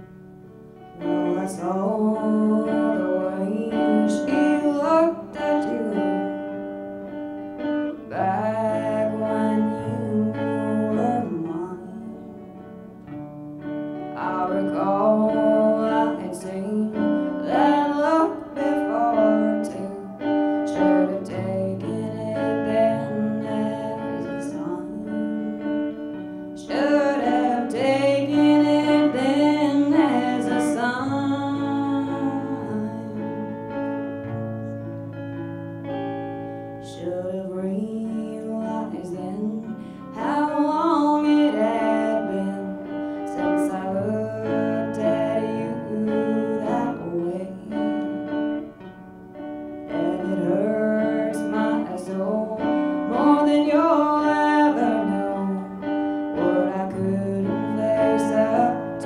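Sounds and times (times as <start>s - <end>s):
woman singing: 0.0s - 34.7s, 36.5s - 59.0s
acoustic guitar: 0.0s - 59.0s
hollow-body guitar: 0.0s - 59.0s.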